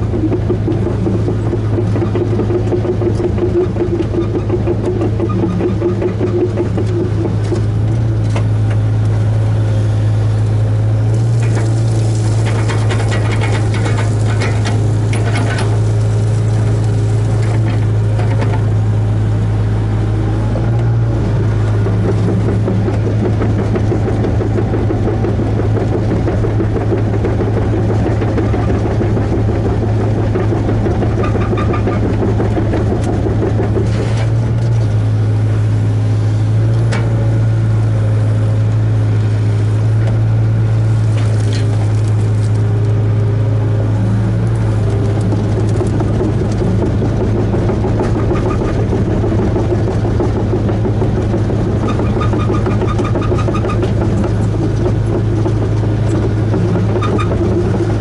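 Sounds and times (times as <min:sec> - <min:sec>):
diesel engine running under load: 0:00.0 - 0:58.0
hydraulics working: 0:00.0 - 0:58.0.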